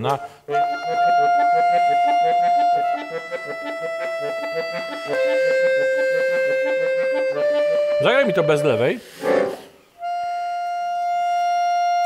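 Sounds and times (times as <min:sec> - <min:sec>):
accordion playing: 0:00.0 - 0:12.0.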